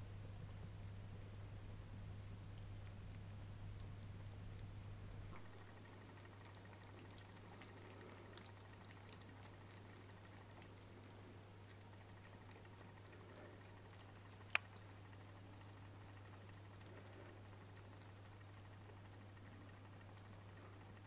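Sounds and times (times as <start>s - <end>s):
cats chewing and licking: 0.3s - 21.0s.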